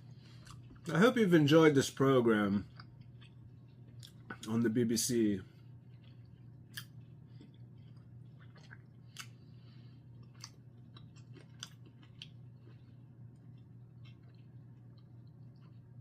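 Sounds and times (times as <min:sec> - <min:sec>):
person chewing: 0:00.0 - 0:00.9, 0:02.6 - 0:04.5, 0:05.6 - 0:16.0
low steady hum: 0:00.0 - 0:16.0.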